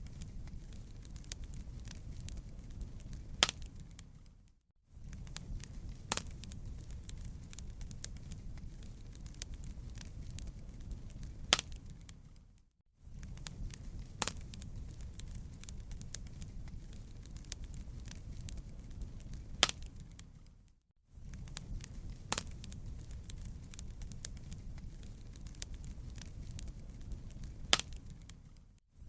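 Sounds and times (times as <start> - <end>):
loud fire pops: 0.0 - 4.2, 5.0 - 12.2, 13.1 - 20.4, 21.2 - 28.6
wood fire crackling: 0.0 - 28.8.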